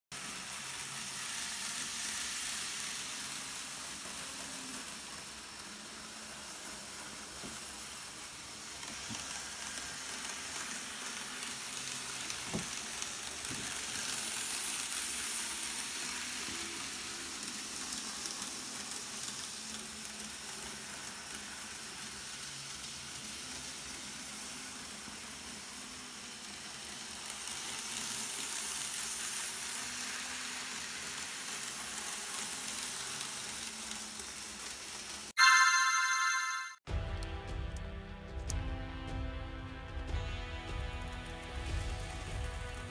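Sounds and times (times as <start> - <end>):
model trains running on track: 0.1 - 36.6, 39.8 - 42.9.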